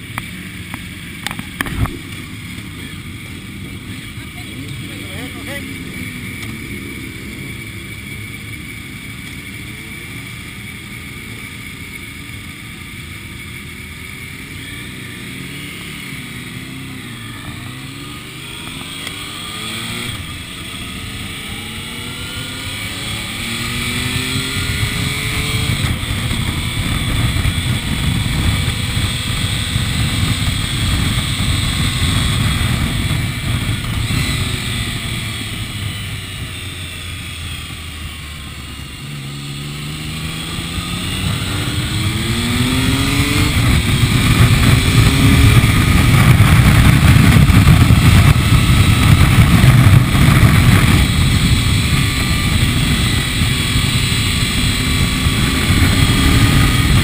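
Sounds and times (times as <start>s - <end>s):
low rushing wind noise: 0.0s - 57.0s
motorcycle engine accelerating: 0.0s - 57.0s.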